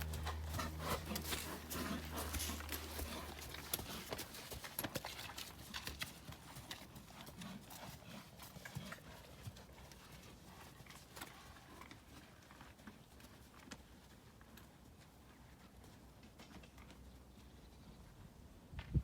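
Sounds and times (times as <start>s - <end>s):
horse hoofbeats: 0.0s - 17.4s.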